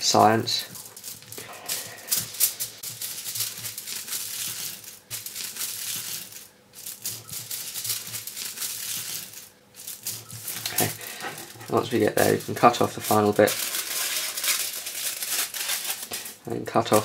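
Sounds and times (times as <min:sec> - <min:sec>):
aluminium foil crinkling: 0:00.0 - 0:17.0.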